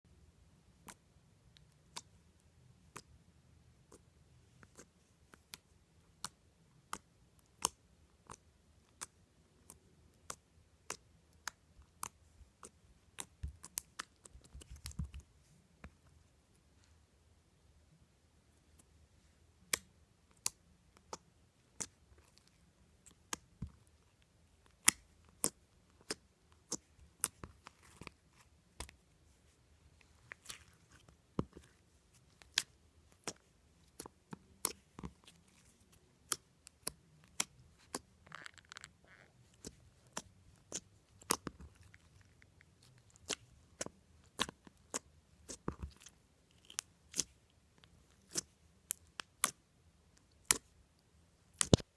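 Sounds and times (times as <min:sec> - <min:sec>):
putty squelch: 0:03.8 - 0:17.0, 0:18.6 - 0:50.8, 0:51.5 - 0:51.9.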